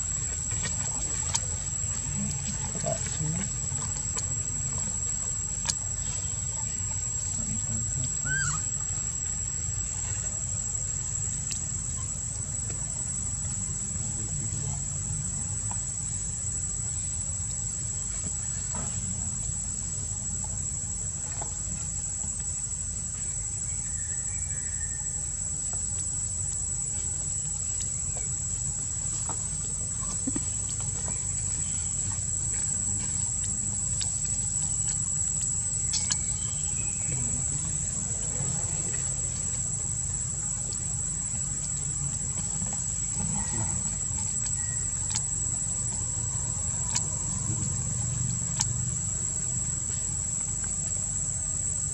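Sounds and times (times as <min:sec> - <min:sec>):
insect chorus drone: 0:00.0 - 0:51.9.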